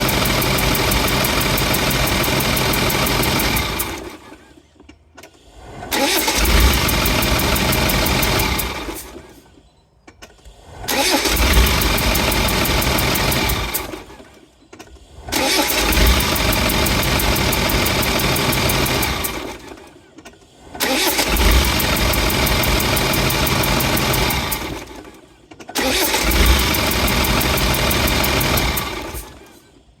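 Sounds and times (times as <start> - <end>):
diesel engine chuffing: 0.0 - 4.8, 5.4 - 9.8, 10.4 - 30.0.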